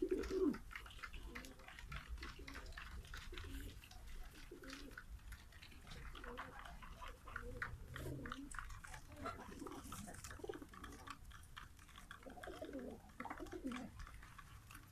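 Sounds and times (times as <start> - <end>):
pigeons cooing: 0.0 - 14.9
pigeons pecking on concrete: 0.0 - 14.9.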